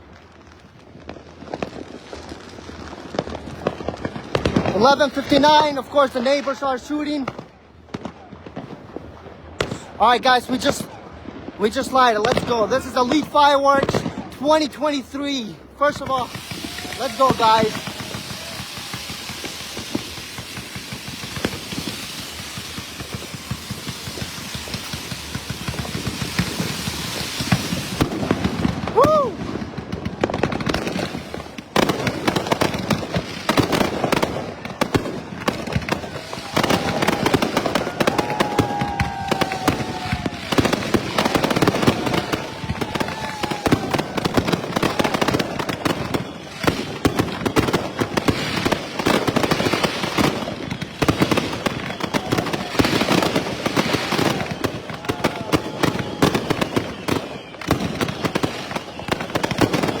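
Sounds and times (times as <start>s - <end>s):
fireworks banging and crackling: 0.0s - 60.0s.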